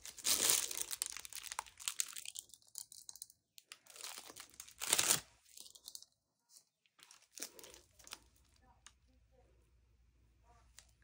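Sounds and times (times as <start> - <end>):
thin plastic crinkling: 0.0 - 9.0.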